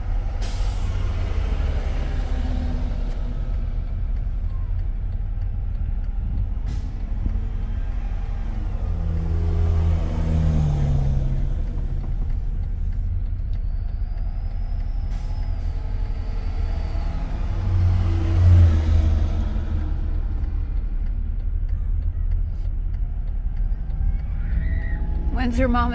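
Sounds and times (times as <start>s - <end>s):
passing vehicles: 0.0s - 25.9s
road and wind noise: 0.0s - 25.9s.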